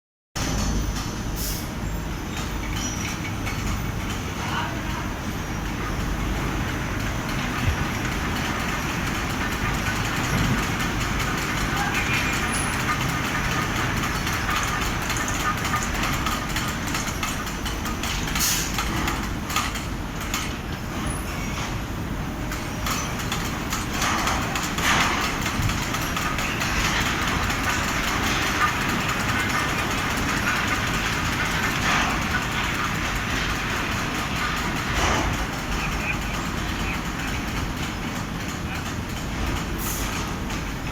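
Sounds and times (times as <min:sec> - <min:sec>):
fabric spreading machine rumbling: 0:01.2 - 0:40.9.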